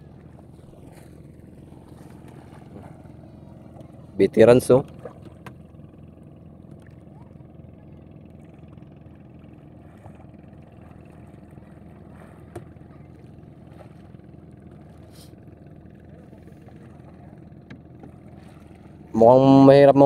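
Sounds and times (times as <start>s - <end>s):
faint water splashes: 0.0s - 20.0s
small boat engine droning: 0.0s - 20.0s.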